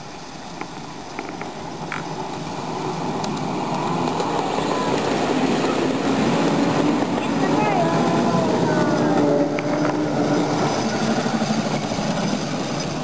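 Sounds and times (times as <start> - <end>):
ride-on train rumbling on track: 0.0 - 13.0.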